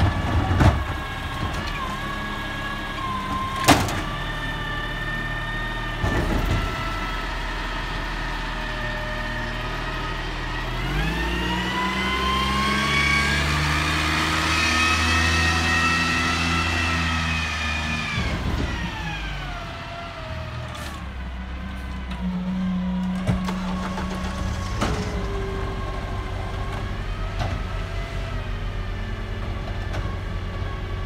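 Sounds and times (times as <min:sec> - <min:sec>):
garbage truck engine revving: 0:00.0 - 0:31.0.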